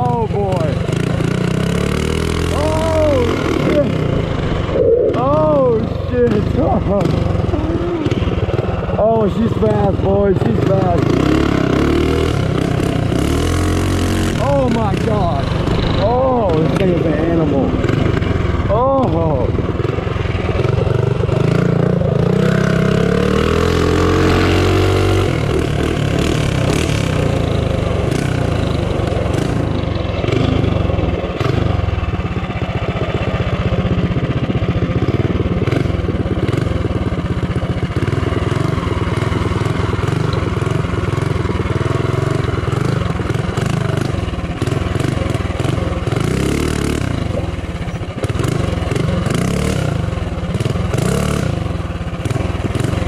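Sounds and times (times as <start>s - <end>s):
mini bike engine accelerating: 0.0s - 53.0s.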